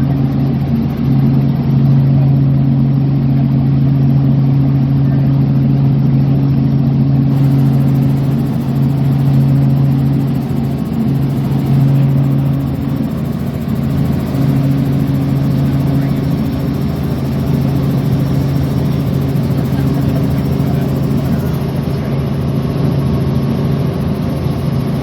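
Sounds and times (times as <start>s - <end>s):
light aircraft engine running: 0.0s - 25.0s.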